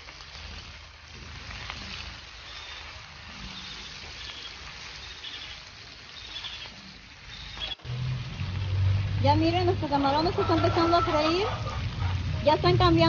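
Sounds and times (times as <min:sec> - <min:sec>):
shrimp sizzling in hot oil: 0:00.0 - 0:13.0.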